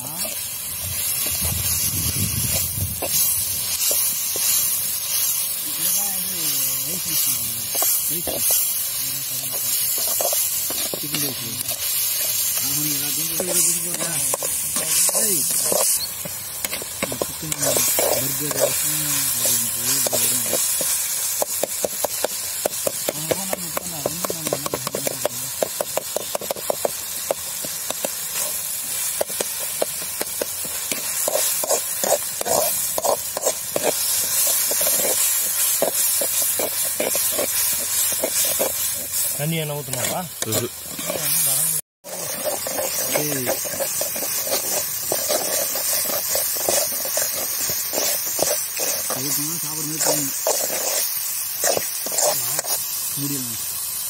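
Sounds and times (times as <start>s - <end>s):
onions and tomatoes sizzling in oil: 0.0s - 54.0s
metal spatula scraping a pan: 2.4s - 23.1s, 24.4s - 52.9s.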